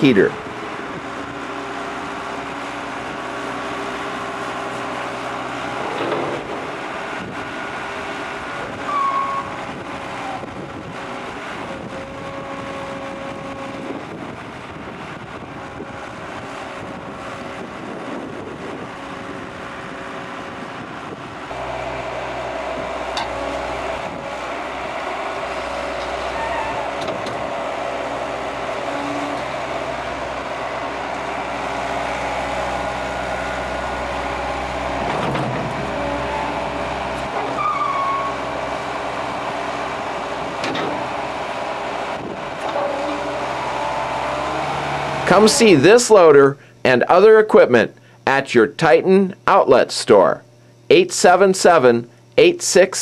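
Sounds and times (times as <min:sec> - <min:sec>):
diesel engine running: 0:00.0 - 0:48.7.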